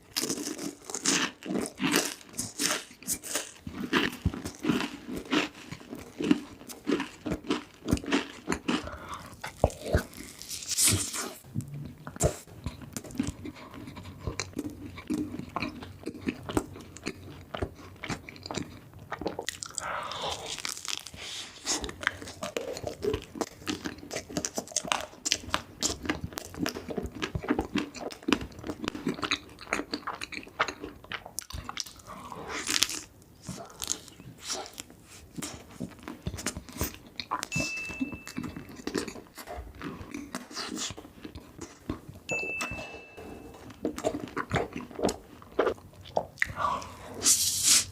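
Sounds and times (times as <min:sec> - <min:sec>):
chewing crunchy sweets: 0:00.0 - 0:47.9.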